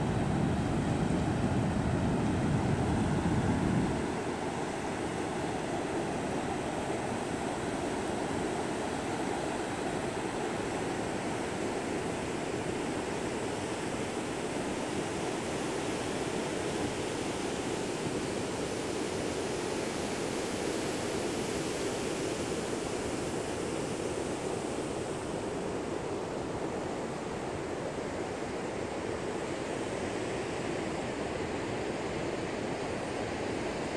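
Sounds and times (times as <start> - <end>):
ocean surf on beach: 0.0 - 33.9.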